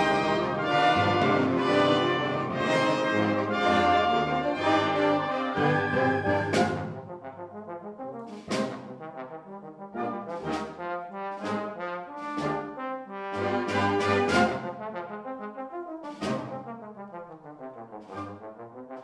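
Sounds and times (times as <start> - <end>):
wind band playing: 0.0 - 19.0.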